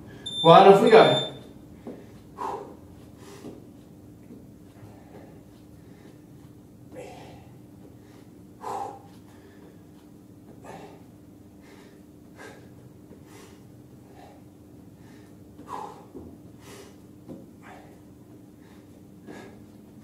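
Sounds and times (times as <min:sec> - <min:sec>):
faint steady hum: 0:00.0 - 0:20.0
man breathing hard: 0:01.8 - 0:03.6, 0:04.7 - 0:19.8.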